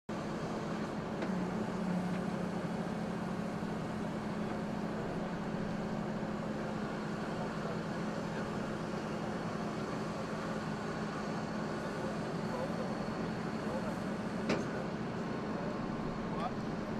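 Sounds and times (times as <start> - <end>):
truck engine idling: 0.2 - 16.9.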